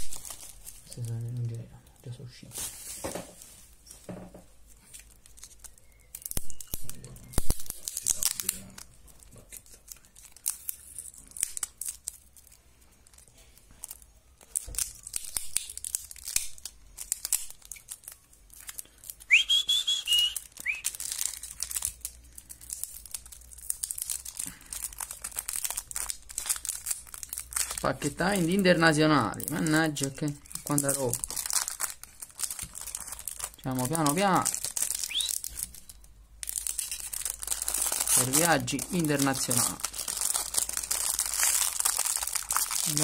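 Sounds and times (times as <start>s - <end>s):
plastic wrapping crinkling: 0.0s - 43.0s.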